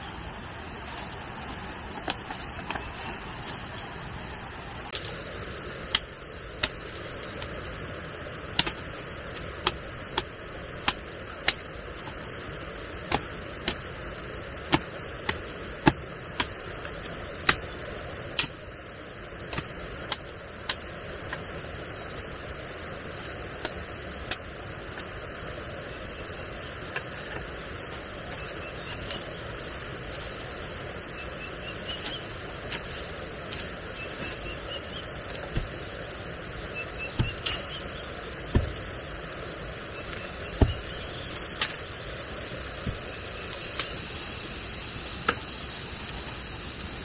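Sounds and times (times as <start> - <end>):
steady hiss: 0.0 - 47.0.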